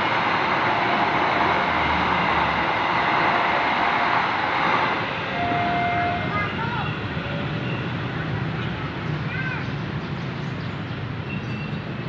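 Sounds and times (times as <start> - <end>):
train wheels rushing on track: 0.0 - 12.0.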